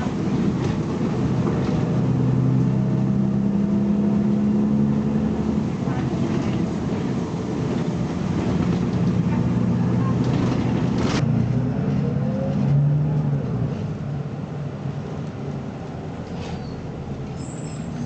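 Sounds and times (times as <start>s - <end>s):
bus engine running under load: 0.0s - 18.0s.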